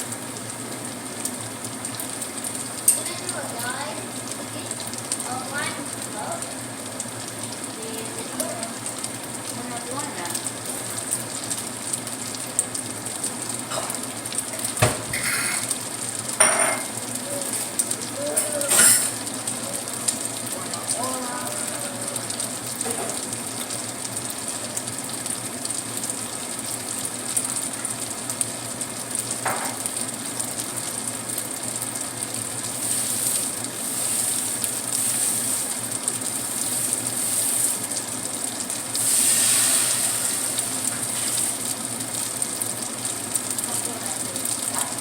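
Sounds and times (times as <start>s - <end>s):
tofu sizzling in hot oil: 0.0s - 45.0s.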